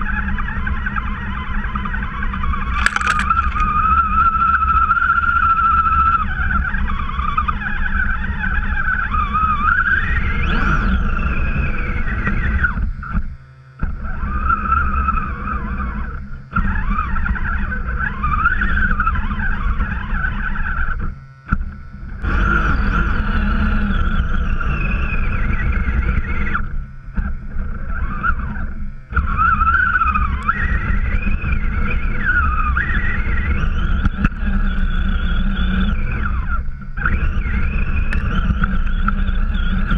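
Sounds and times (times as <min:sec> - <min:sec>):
toy truck motor whining: 0:00.0 - 0:21.5, 0:22.1 - 0:39.9.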